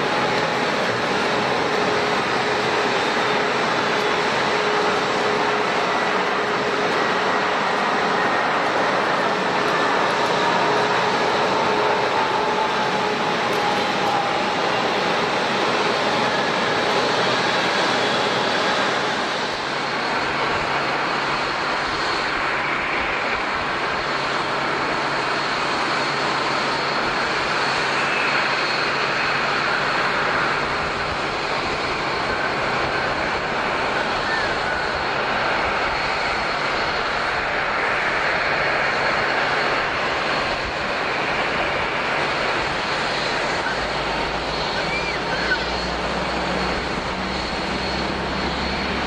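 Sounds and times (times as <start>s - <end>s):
jet engines idling: 0.0s - 49.0s.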